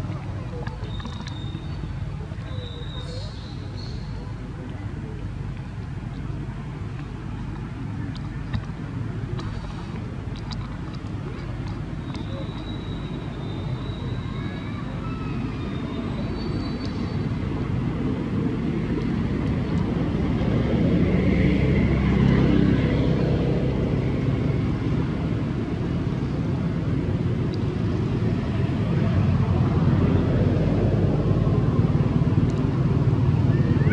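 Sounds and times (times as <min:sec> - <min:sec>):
distant vehicle engine rumble: 0:00.0 - 0:33.9.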